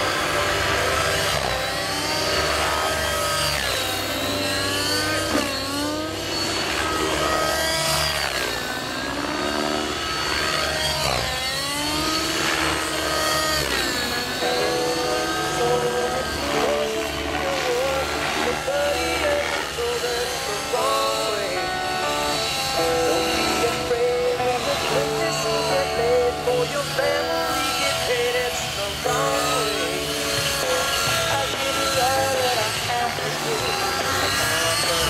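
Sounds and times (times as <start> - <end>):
rc helicopter engine and rotors: 0.0 - 35.0.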